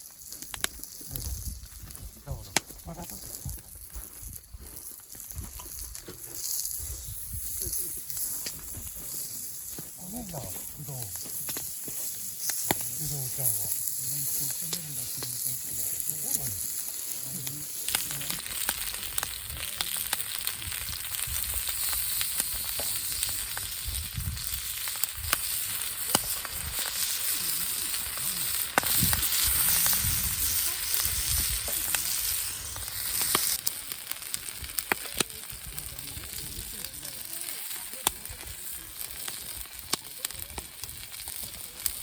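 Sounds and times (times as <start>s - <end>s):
food sizzling on hot metal: 0.0s - 42.0s.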